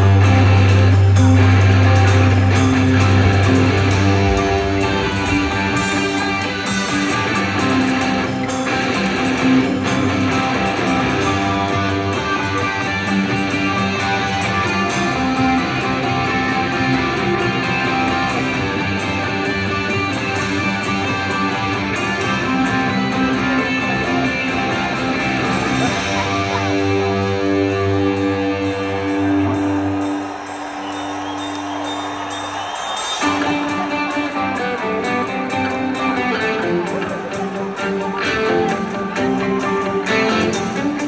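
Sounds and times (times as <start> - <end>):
rock band guitars playing live: 0.0 - 41.0.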